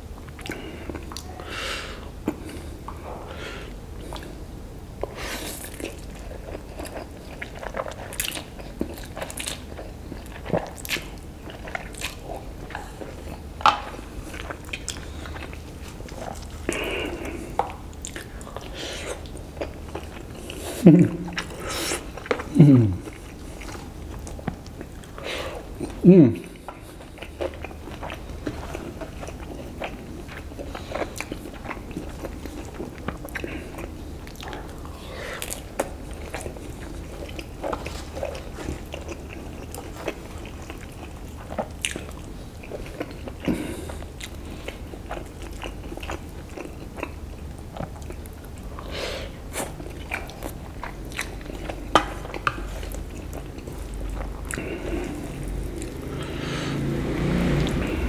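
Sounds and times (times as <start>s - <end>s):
close chewing and biting: 5.0s - 58.0s.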